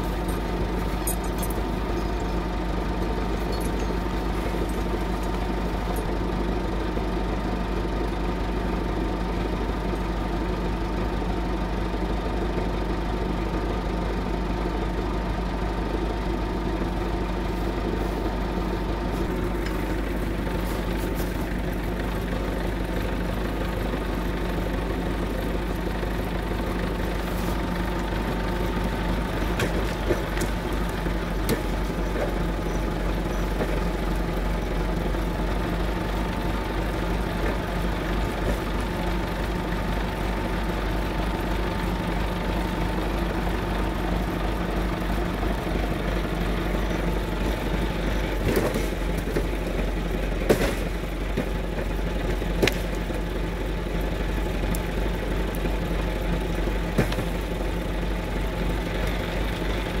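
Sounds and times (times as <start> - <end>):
tractor engine running: 0.0 - 60.0.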